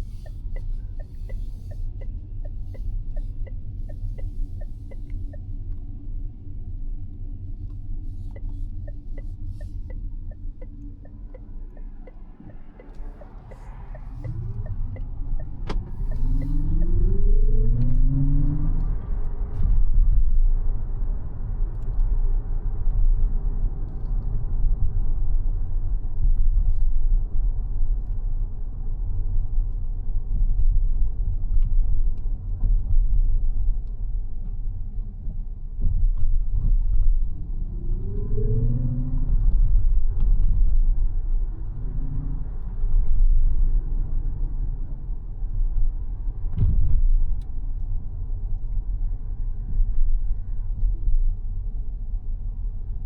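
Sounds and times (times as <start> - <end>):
road and tyre rumble: 0.0 - 53.0.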